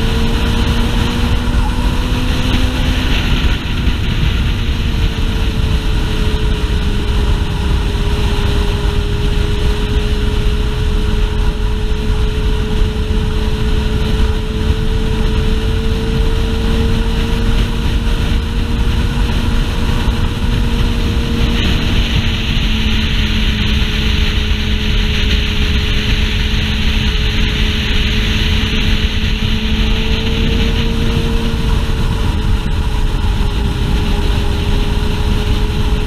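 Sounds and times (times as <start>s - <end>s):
motorcycle engine cruising: 0.0s - 36.0s
wind rumble on microphone: 0.0s - 36.0s.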